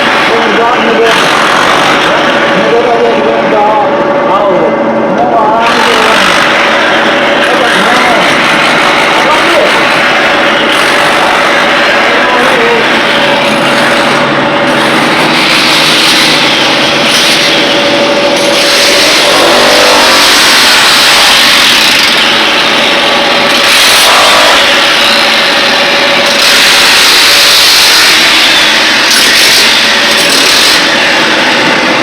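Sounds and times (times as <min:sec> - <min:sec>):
powered machine running loudly: 0:00.0 - 0:32.0.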